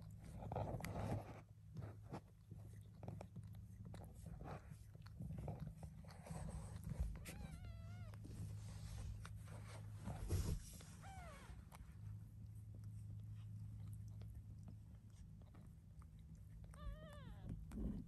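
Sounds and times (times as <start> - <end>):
cat licking kittens: 0.0 - 18.0
low steady hum: 0.0 - 18.0.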